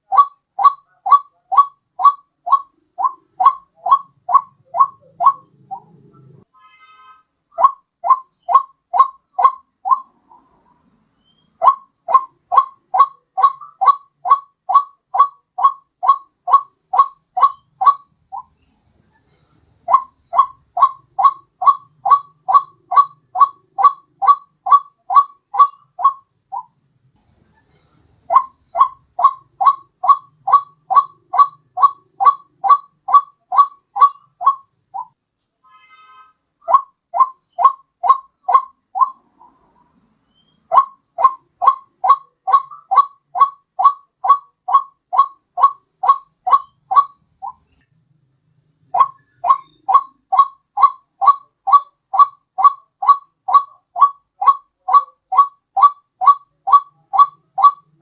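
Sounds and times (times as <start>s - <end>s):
waterhen calling: 0.0s - 7.0s, 7.6s - 10.6s, 11.2s - 18.6s, 19.9s - 26.7s, 28.3s - 39.7s, 40.3s - 47.8s, 48.9s - 58.0s.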